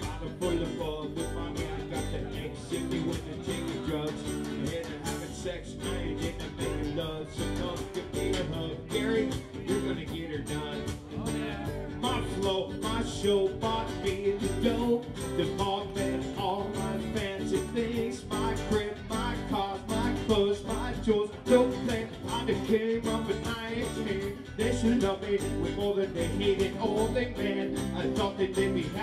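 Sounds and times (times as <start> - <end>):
live band playing guitars: 0.0 - 29.0.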